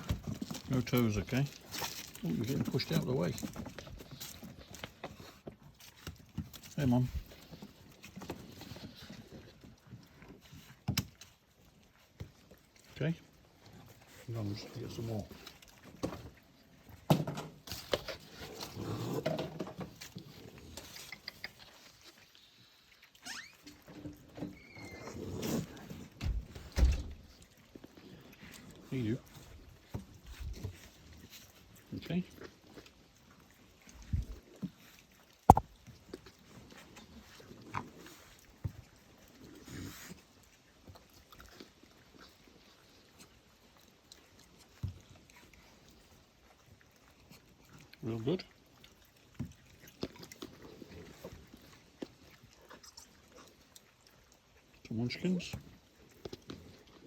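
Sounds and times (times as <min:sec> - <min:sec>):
raccoons chewing and biting: 0:00.0 - 0:57.0.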